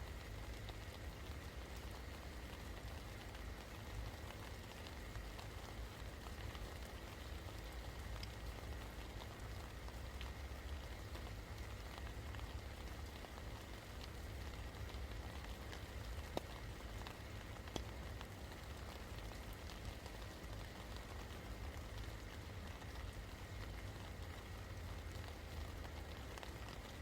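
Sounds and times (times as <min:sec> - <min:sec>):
raindrops ticking: 0:00.0 - 0:27.0
steady rain falling: 0:00.0 - 0:27.0.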